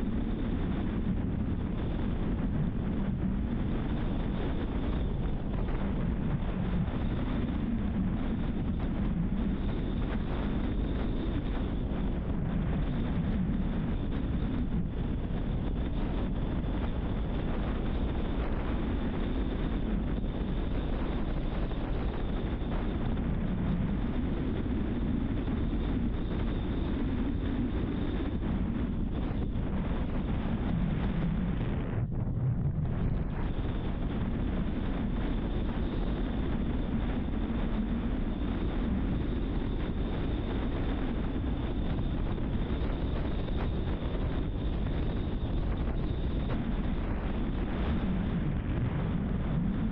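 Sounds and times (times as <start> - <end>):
wind noise: 0.0 - 49.9.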